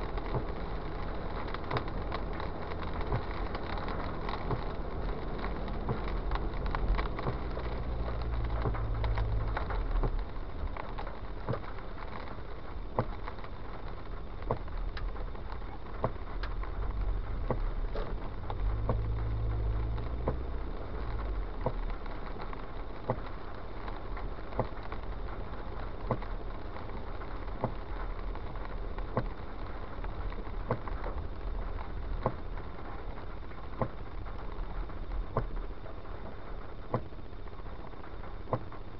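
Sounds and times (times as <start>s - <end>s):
engine and road rumble: 0.0s - 38.9s
rain and tyre hiss: 0.0s - 38.9s.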